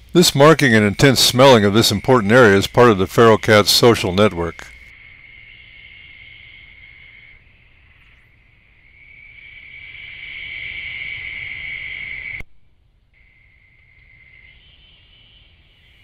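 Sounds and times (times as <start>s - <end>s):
insects trilling: 0.0s - 12.4s, 13.2s - 16.0s.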